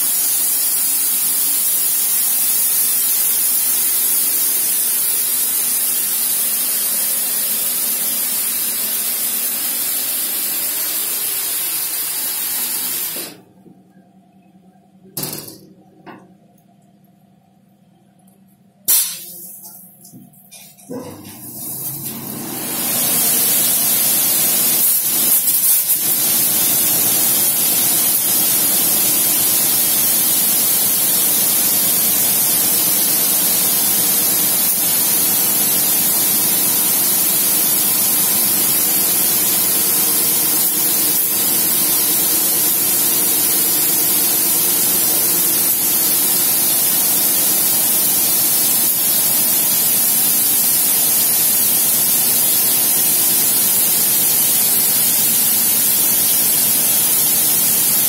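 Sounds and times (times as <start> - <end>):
high-pressure water spray hissing: 0.0 - 13.3, 18.9 - 19.7, 21.6 - 58.0.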